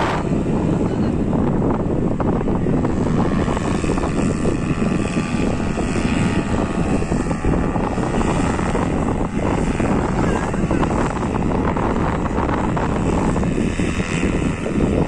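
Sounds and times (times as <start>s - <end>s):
paramotor engine and propeller: 0.0s - 15.0s.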